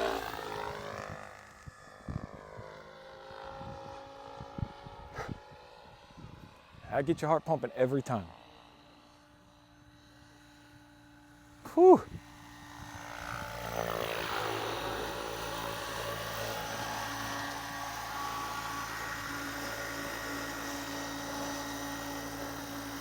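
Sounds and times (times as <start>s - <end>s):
rc helicopter motor and rotor whine: 0.0s - 23.0s.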